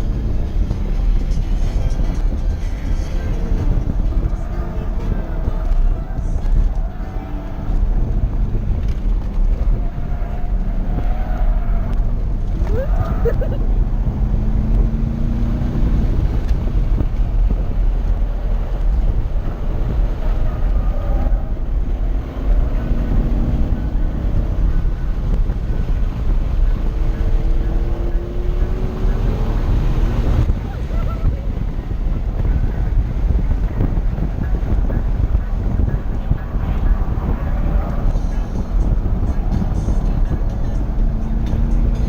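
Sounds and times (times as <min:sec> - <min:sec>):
race car engine: 0:00.0 - 0:42.0
wind noise on microphone: 0:00.0 - 0:42.0.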